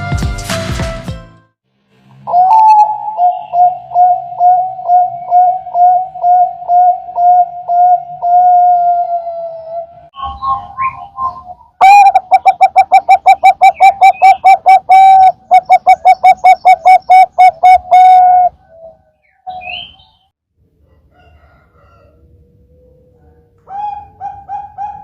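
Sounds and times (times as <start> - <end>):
dove cooing: 2.3 - 20.2, 22.8 - 25.0.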